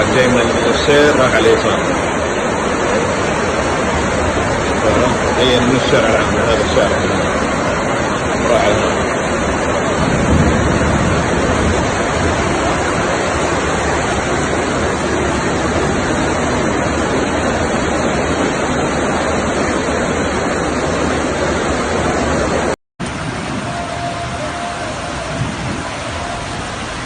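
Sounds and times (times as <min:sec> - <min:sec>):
floodwater rushing: 0:00.0 - 0:27.0
heavy rain: 0:00.0 - 0:27.0.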